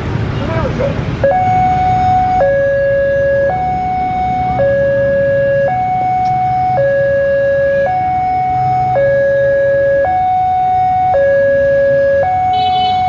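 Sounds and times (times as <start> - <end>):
level crossing two-tone alarm: 1.2 - 13.0.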